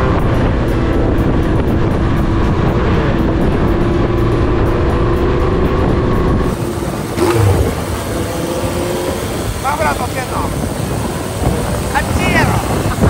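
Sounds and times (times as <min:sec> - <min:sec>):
motorcycle exhaust drone: 0:00.0 - 0:13.0.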